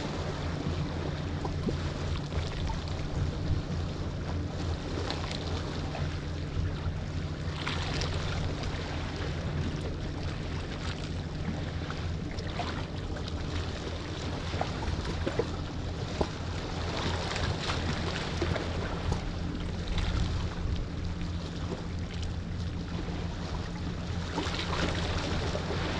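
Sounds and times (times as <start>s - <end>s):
low hum: 0.0s - 25.9s
water washing at shore: 0.0s - 25.9s.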